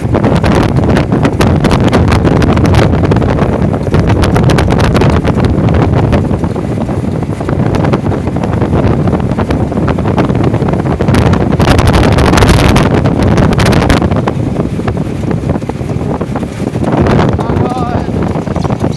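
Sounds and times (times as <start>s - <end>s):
boat engine running: 0.0s - 18.9s
wind buffeting microphone: 0.0s - 18.9s.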